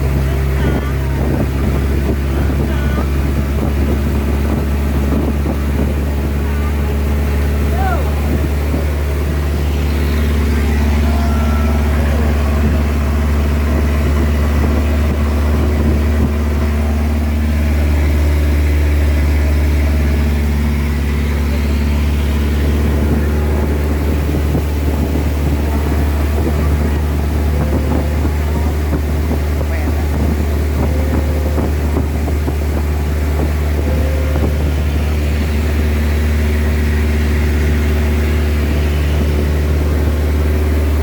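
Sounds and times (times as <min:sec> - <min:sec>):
motorboat engine humming: 0:00.0 - 0:41.0.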